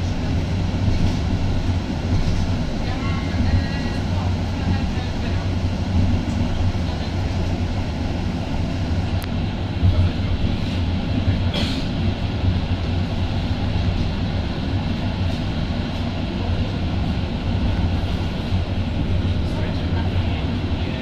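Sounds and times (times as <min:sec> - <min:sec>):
tram wheels on rails: 0:00.0 - 0:21.0.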